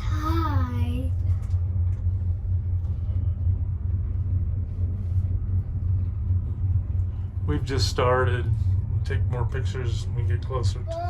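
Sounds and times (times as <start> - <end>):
gondola cabin rumble: 0.0 - 11.0.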